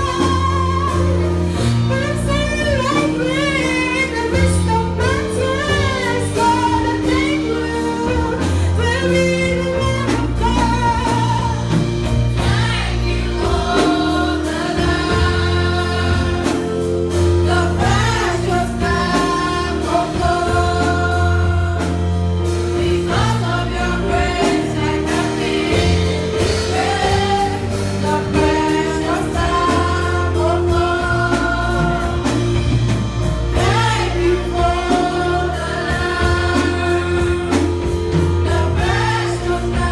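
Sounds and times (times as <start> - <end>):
gospel singing by several voices: 0.0 - 39.9
instrumental backing with bass line: 0.0 - 39.9.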